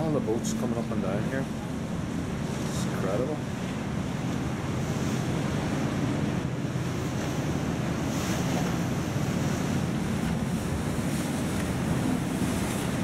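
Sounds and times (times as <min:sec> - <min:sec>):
choppy water rushing: 0:00.0 - 0:13.0.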